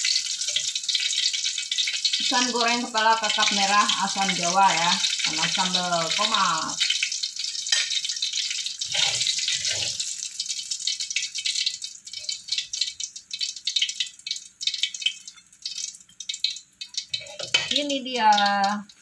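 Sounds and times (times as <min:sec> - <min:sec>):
oil sizzling and crackling in wok: 0:00.0 - 0:19.0.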